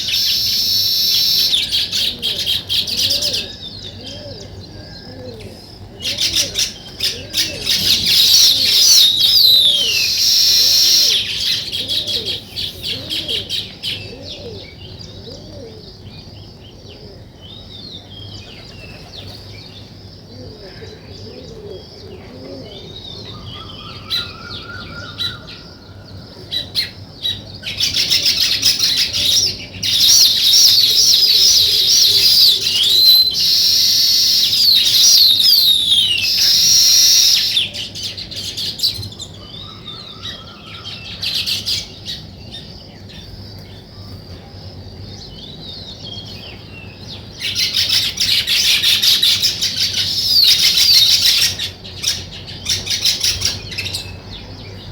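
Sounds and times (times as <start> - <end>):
flock of songbirds chirping: 0.0 - 54.9.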